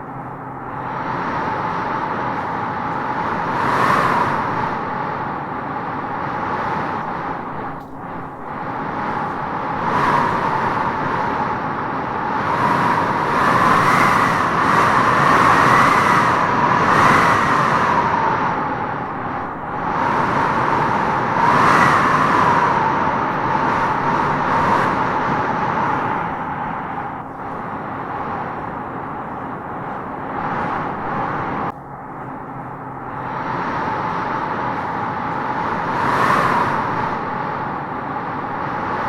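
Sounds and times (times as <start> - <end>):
howling wind gusts: 0.0 - 39.0.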